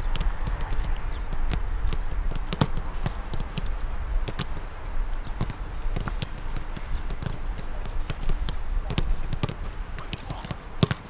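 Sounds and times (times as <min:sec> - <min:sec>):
footballs being kicked: 0:00.0 - 0:11.0.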